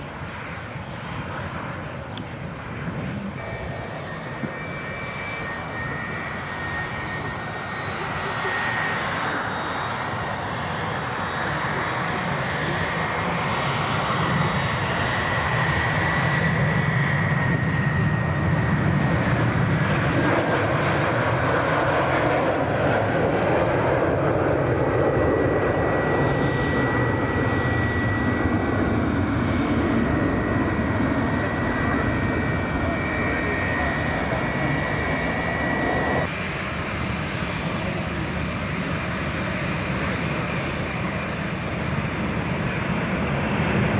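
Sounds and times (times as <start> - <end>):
jet airliner roar: 0.0 - 43.9
thin steady jet whine: 0.0 - 43.9.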